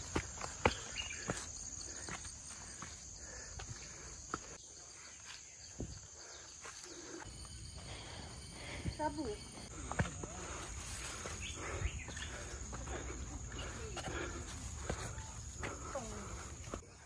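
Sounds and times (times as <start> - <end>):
high-pitched insect drone: 0.0 - 16.8
footsteps on dirt trail: 0.0 - 17.0.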